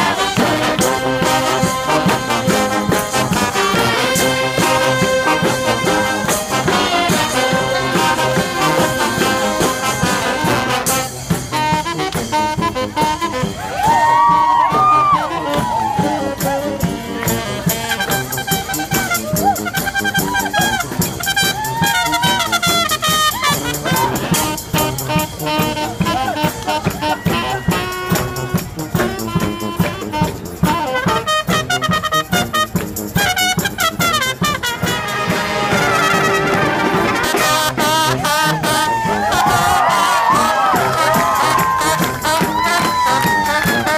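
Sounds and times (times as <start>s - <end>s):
steady drumbeat: 0.0s - 43.9s
trumpets and trombones: 0.0s - 43.9s.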